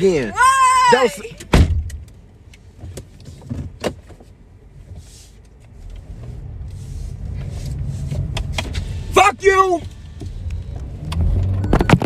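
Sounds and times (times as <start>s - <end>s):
low car rumble: 0.0s - 12.0s.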